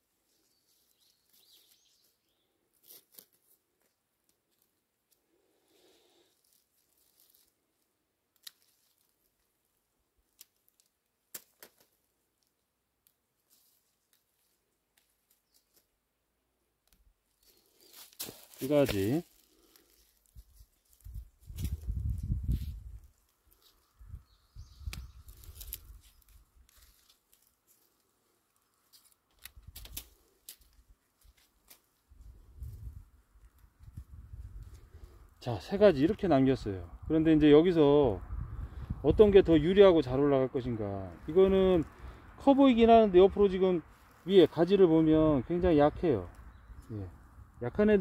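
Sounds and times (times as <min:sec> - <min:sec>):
rustling leaves and stems: 0:00.0 - 0:16.1, 0:16.8 - 0:36.7, 0:38.8 - 0:48.0.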